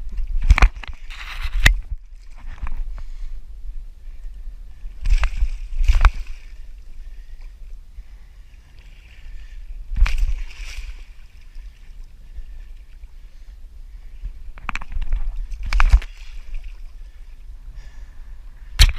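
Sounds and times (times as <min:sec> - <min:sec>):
steady low rumble: 0:00.0 - 0:18.9
water sloshing around kayak: 0:00.0 - 0:18.9.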